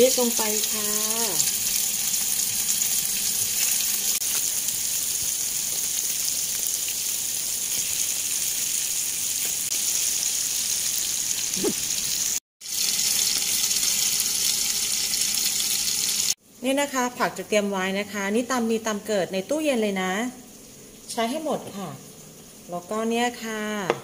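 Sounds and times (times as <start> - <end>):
burger patties sizzling in oil: 0.0 - 16.4, 20.3 - 23.4.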